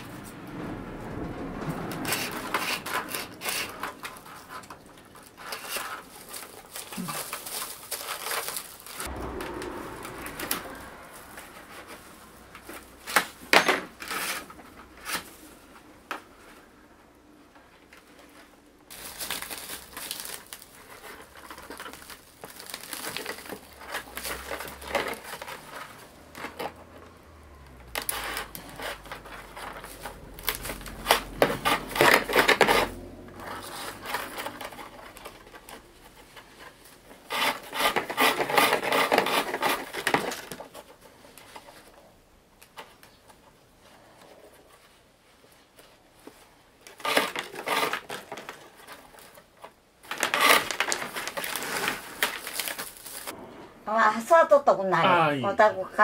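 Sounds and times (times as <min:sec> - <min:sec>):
bamboo strips rustling and clicking: 0:00.0 - 0:16.8, 0:17.5 - 0:53.4.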